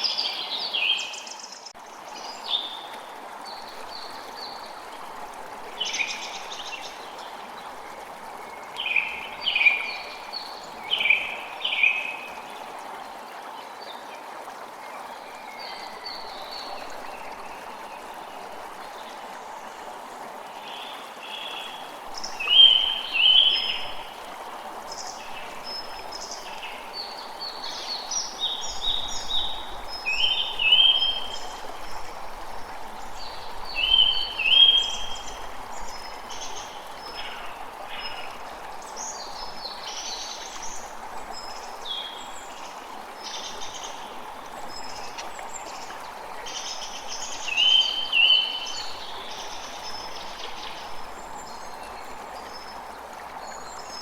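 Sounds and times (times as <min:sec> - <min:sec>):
creek flowing: 0:00.0 - 0:54.0.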